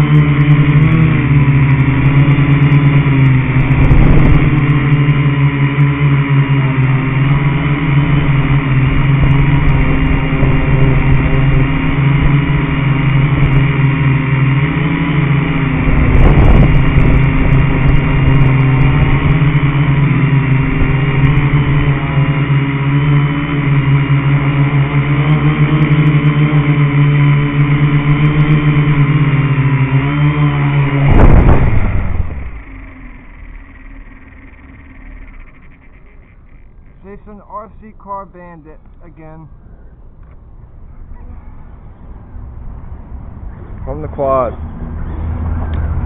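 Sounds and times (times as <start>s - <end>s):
quadcopter propellers buzzing: 0.0s - 46.0s.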